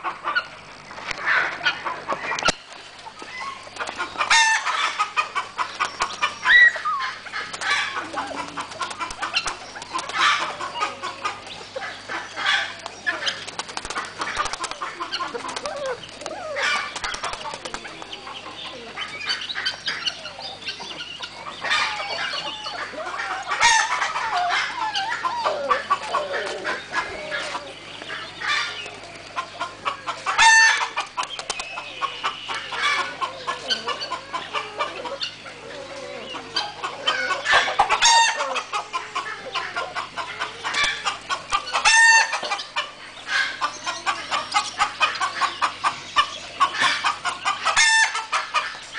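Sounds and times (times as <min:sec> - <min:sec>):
chicken pitched calls: 0:00.0 - 0:48.9
chickens clucking: 0:00.0 - 0:48.9.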